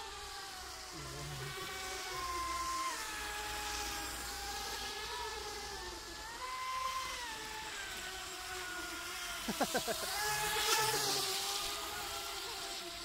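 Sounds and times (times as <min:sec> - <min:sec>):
toy boat motors whining: 0:00.0 - 0:13.0.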